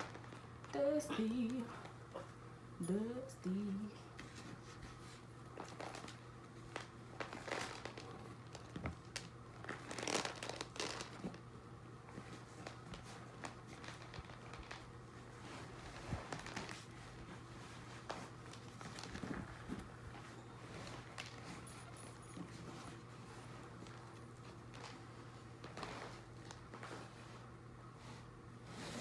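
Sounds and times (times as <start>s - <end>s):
fabric bag rustling and crinkling: 0.0s - 1.6s, 4.5s - 29.0s.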